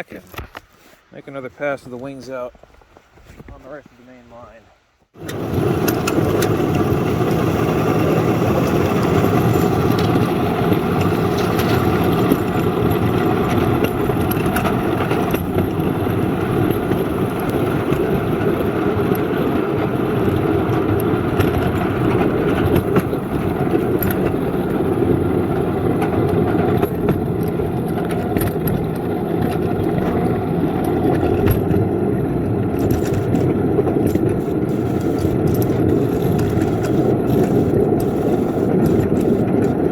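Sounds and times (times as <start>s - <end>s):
small locomotive engine running: 5.2s - 39.9s.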